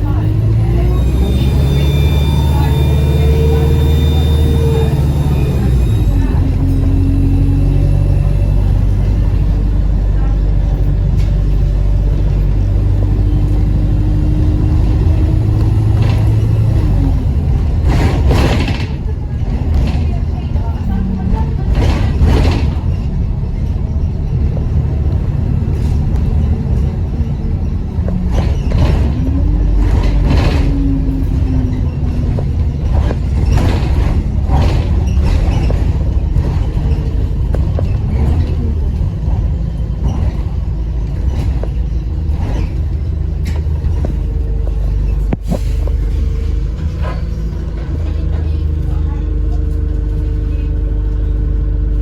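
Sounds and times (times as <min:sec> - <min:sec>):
diesel bus engine rumbling: 0:00.0 - 0:52.0.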